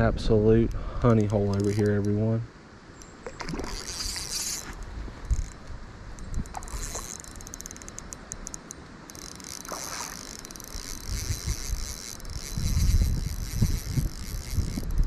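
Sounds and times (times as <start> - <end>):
fishing reel clicking: 0.7 - 2.2, 3.0 - 15.0.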